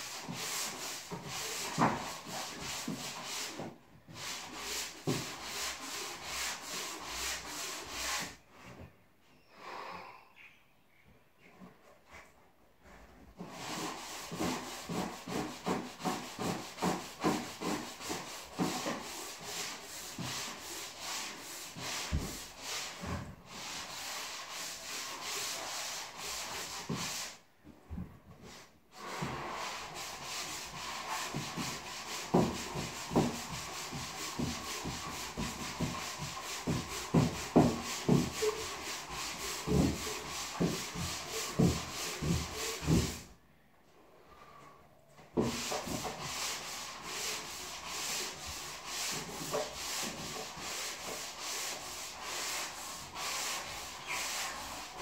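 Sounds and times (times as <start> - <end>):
hand sanding drywall: 0.0 - 8.8, 12.1 - 27.5, 28.3 - 43.4, 44.2 - 55.0.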